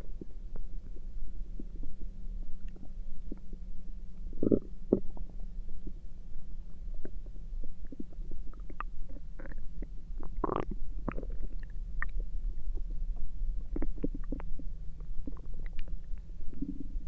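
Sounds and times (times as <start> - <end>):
stomach gurgling: 0.0 - 3.7, 4.3 - 6.0, 6.9 - 17.0.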